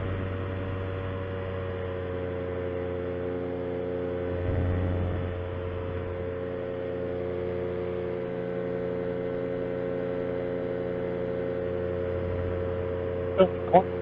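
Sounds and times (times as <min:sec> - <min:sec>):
paramotor engine drone: 0:00.0 - 0:14.0.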